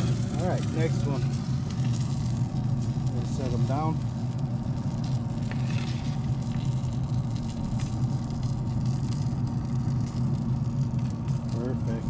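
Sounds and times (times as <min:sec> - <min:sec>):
grill fan humming: 0:00.0 - 0:12.0.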